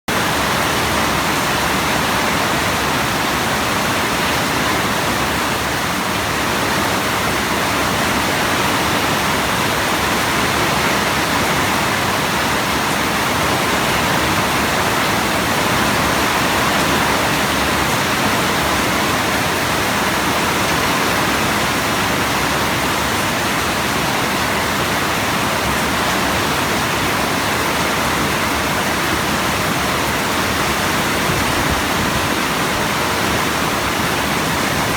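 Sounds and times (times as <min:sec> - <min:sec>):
rain falling steadily: 0:00.1 - 0:34.9.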